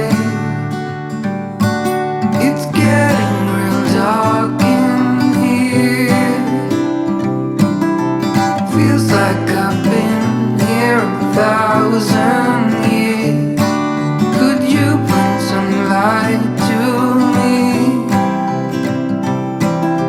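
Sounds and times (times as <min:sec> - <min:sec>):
acoustic guitar song: 0:00.0 - 0:20.0.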